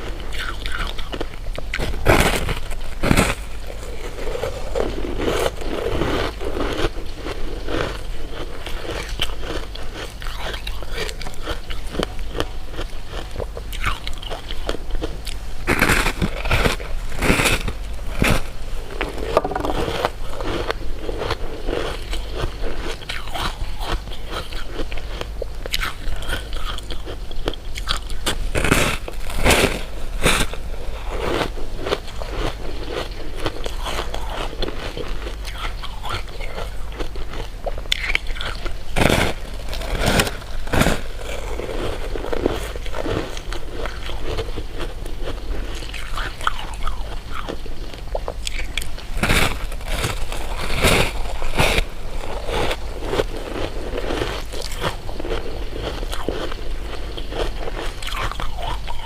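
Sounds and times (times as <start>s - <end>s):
chewing and crunching: 0.0s - 59.0s
candy crunching bites: 0.2s - 59.0s.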